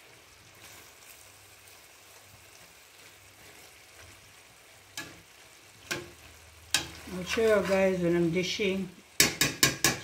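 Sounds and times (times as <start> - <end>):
curry sizzling in a pot: 0.0 - 10.0.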